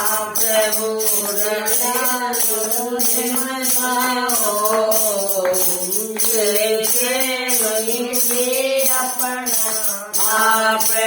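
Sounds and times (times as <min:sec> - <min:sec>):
jingling percussion: 0:00.0 - 0:11.0.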